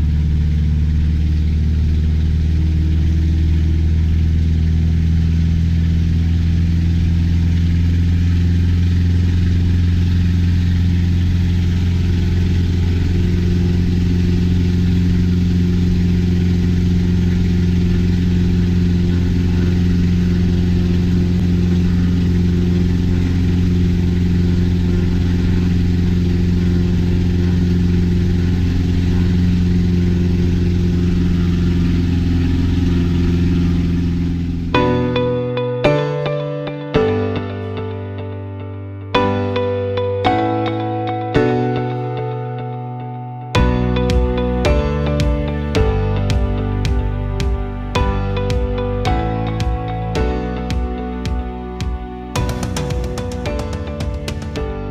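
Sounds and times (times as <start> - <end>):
aircraft engine running: 0.0 - 42.8, 43.6 - 54.9.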